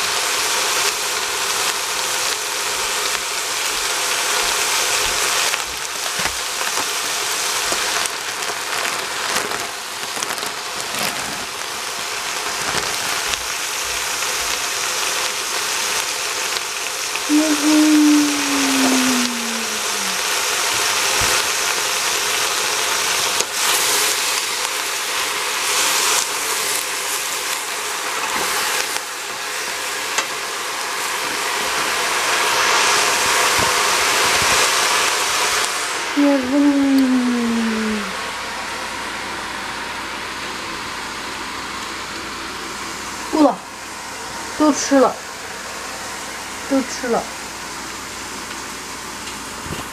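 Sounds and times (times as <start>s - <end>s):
food sizzling in a pot: 0.0s - 49.9s.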